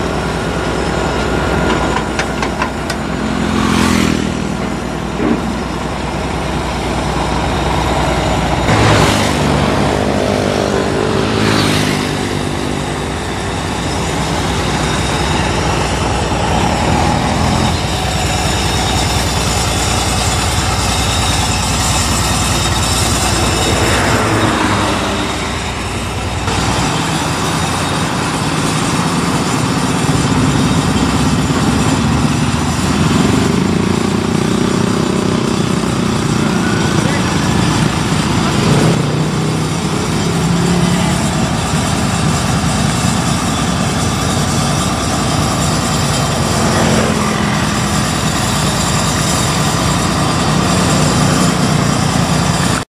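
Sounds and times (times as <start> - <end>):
heavy diesel engines running: 0.0 - 52.9.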